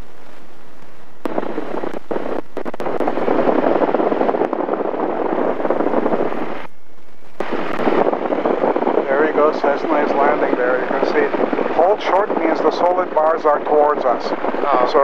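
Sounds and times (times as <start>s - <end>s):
airplane engine and propeller: 0.0s - 15.0s.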